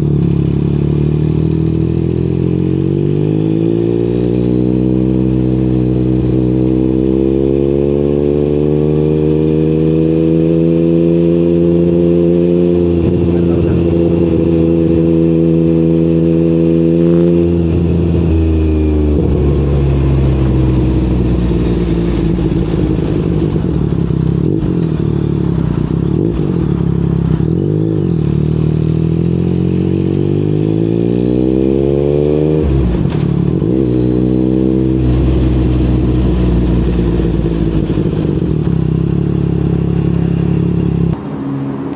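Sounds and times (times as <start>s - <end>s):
motorcycle engine while riding: 0.0s - 41.9s.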